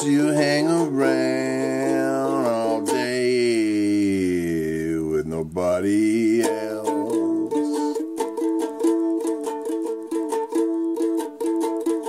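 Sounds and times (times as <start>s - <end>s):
person singing: 0.0s - 12.0s
ukulele strumming: 0.0s - 12.0s.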